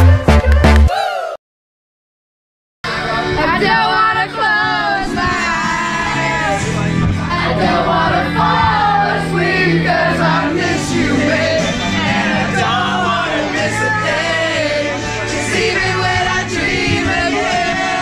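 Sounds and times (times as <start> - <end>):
sustained bass notes: 0.0 - 0.9, 2.9 - 18.0.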